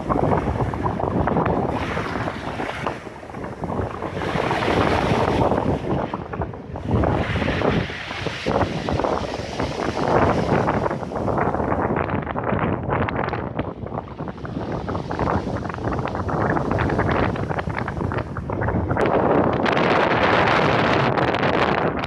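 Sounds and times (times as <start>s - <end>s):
heavy surf rushing: 0.0s - 22.0s
wind buffeting microphone: 0.0s - 22.0s.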